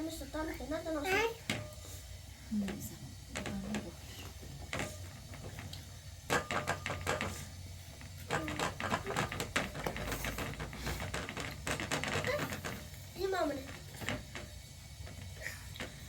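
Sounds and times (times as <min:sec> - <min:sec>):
rapid clicks and light knocks: 0:02.6 - 0:16.0.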